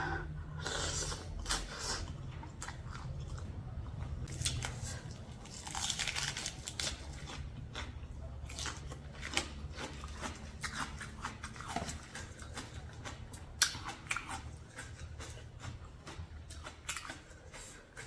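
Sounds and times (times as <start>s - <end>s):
low steady hum: 0.0s - 18.0s
person chewing and crunching: 0.6s - 18.0s.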